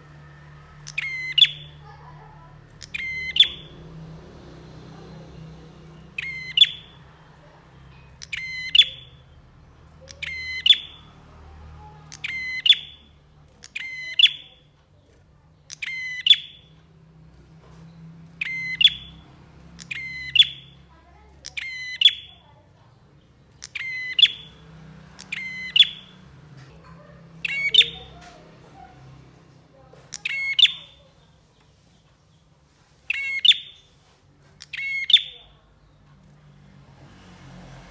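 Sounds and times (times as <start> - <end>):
faint low hum: 0.0 - 37.9.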